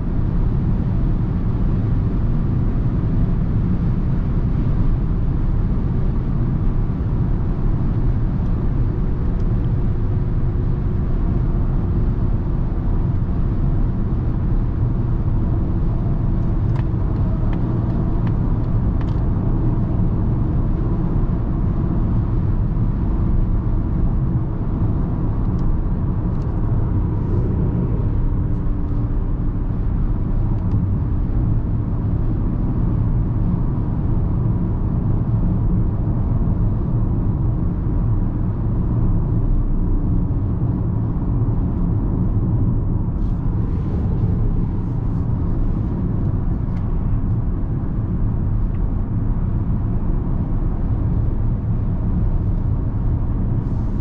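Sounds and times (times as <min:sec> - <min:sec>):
road and wind rumble in car: 0:00.0 - 0:54.0.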